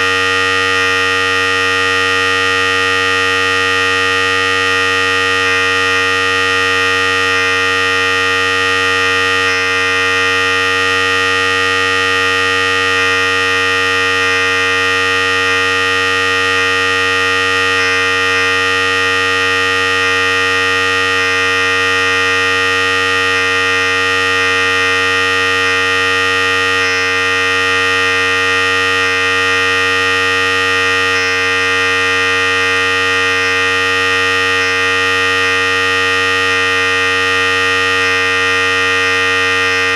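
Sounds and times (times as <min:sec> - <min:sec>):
electric hair clipper humming: 0:00.0 - 0:39.9.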